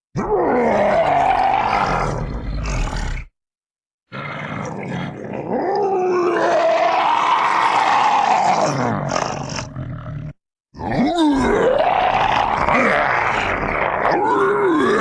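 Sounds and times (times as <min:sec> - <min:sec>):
cartoon monster roar: 0:00.2 - 0:03.3, 0:05.0 - 0:09.9, 0:10.8 - 0:15.0.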